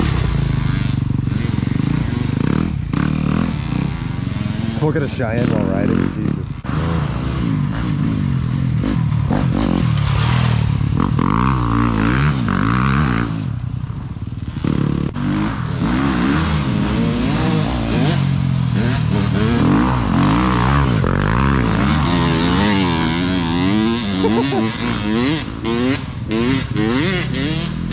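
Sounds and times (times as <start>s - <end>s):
pit bike engine revving: 0.0s - 13.6s, 14.4s - 27.9s.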